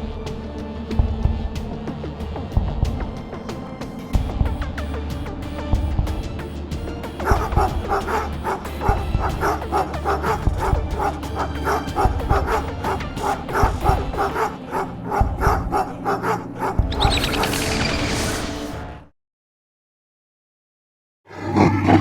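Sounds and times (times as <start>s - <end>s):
cartoon background music: 0.0s - 19.1s.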